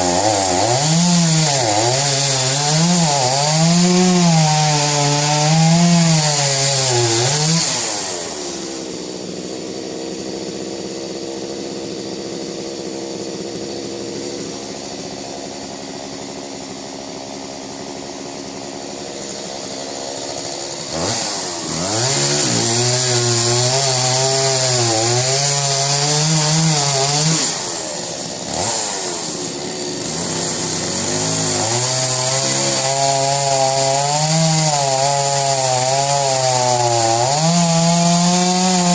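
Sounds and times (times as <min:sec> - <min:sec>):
chainsaw cutting: 0:00.0 - 0:38.9.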